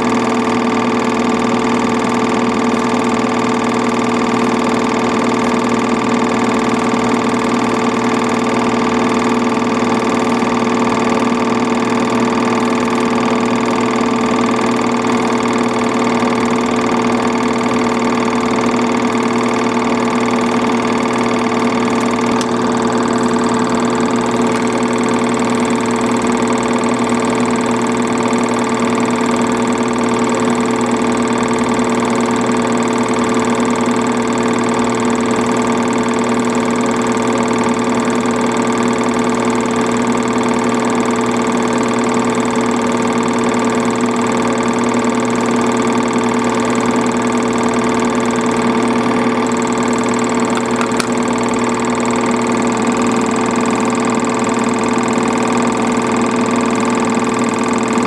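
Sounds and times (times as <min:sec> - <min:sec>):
film projector whirring and rattling: 0:00.0 - 0:58.0.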